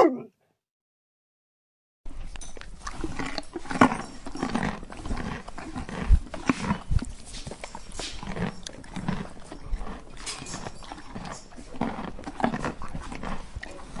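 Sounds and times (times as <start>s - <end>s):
squirrel chewing food: 2.5s - 14.0s.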